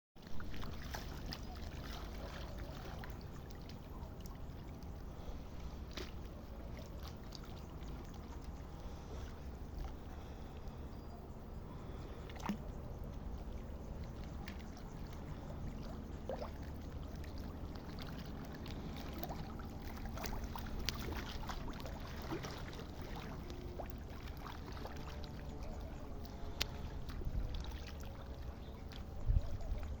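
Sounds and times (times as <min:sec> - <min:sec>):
water sloshing and splashing: 0:00.2 - 0:30.0.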